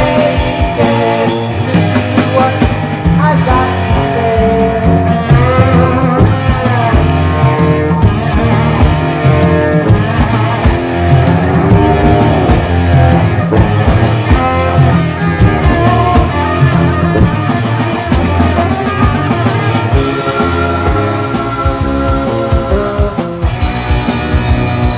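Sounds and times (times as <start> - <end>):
bass guitar: 0.0 - 24.9
drum kit: 0.0 - 24.9
electric guitar: 0.0 - 24.9.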